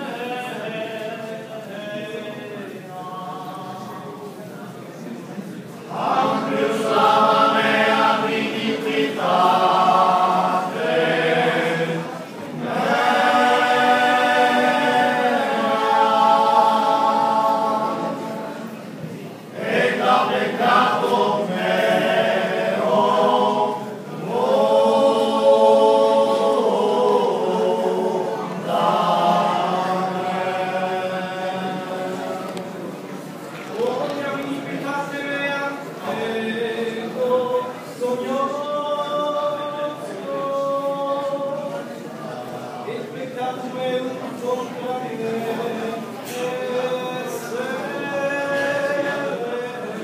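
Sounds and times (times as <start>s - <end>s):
male ensemble singing chant: 0.0s - 4.1s, 5.9s - 18.8s, 19.5s - 33.0s, 33.7s - 50.0s.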